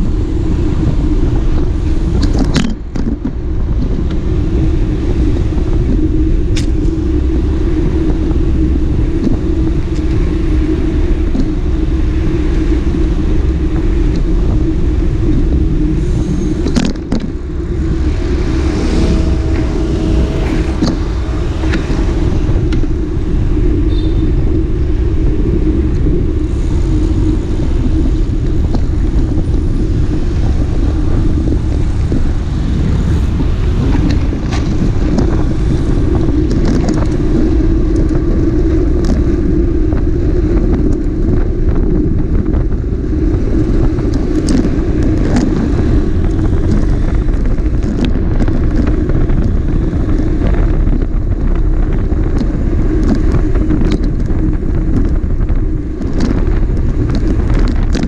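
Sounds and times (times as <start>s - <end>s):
vehicle rumble: 0.0s - 58.0s.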